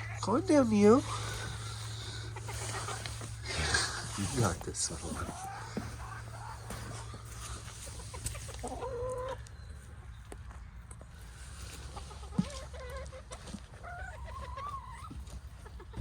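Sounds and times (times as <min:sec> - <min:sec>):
hen clucks: 0:00.0 - 0:16.0
hens calling: 0:00.0 - 0:16.0.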